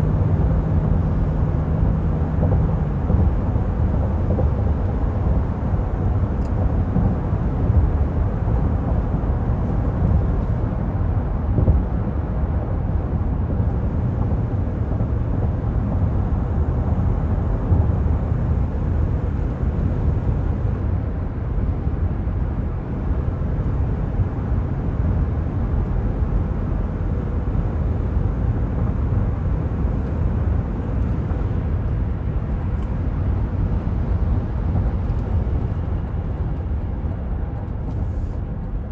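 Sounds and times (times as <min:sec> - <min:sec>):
road and engine rumble: 0:00.0 - 0:38.9.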